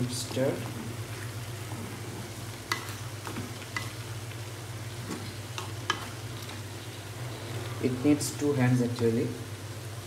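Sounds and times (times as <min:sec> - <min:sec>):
faint sizzle of frying: 0:00.0 - 0:10.0.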